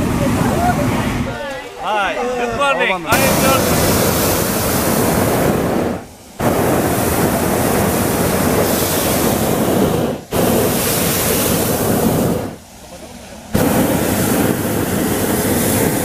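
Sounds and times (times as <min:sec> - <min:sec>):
propane burner flame blast: 0:00.0 - 0:16.0.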